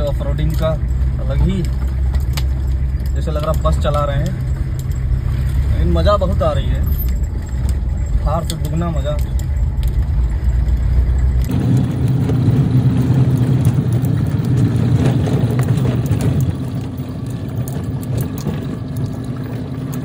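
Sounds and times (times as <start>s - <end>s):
vehicle engine and cabin noise: 0.0s - 20.0s
body knocks and rattles: 0.4s - 20.0s.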